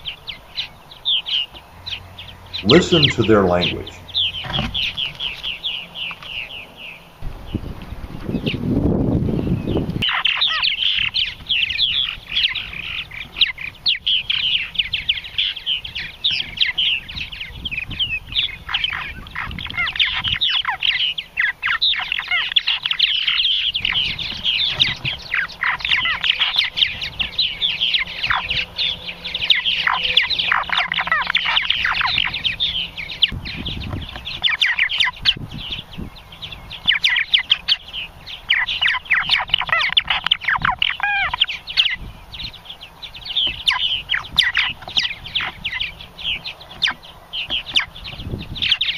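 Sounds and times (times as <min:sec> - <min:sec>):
martins chirping and gurgling: 0:00.0 - 0:48.9.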